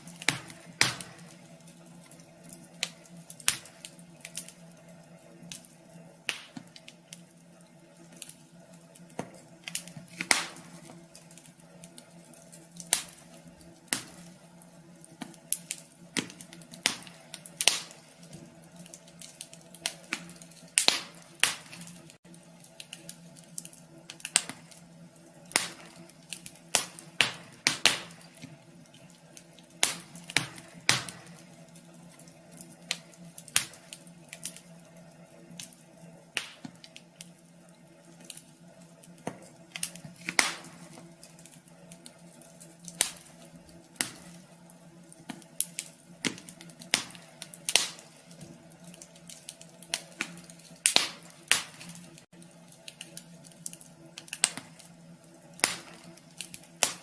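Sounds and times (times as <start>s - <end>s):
faint steady hum: 0.0s - 57.0s
wood fire popping and snapping: 0.0s - 57.0s.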